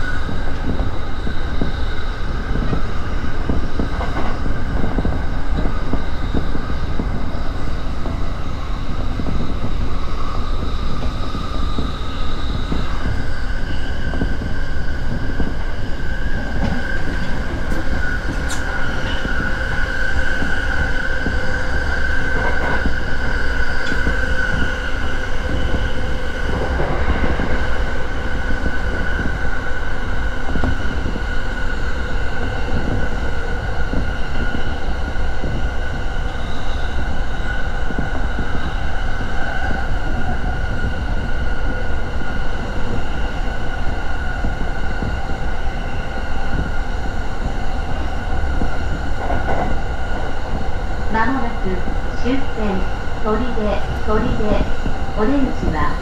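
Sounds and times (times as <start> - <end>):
rumble of wheels on rail: 0.0 - 56.0.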